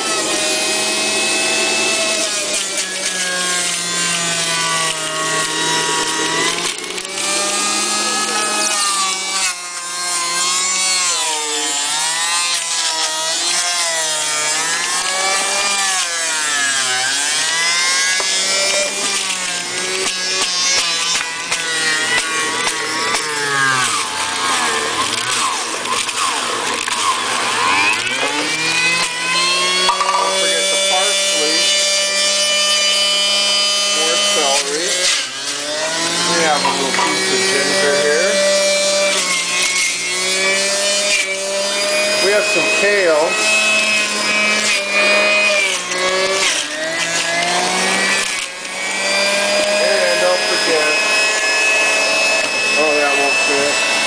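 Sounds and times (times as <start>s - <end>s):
juicer motor whine: 0.0s - 54.0s.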